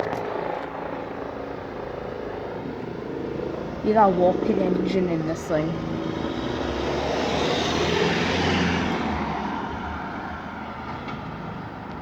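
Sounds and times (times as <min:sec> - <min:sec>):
helicopter flying overhead: 0:00.0 - 0:12.0.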